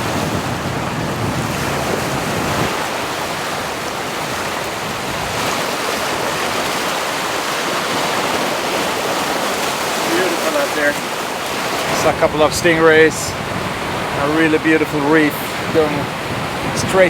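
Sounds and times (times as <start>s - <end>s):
waves breaking: 0.0s - 17.0s
wind rumble on microphone: 0.0s - 17.0s.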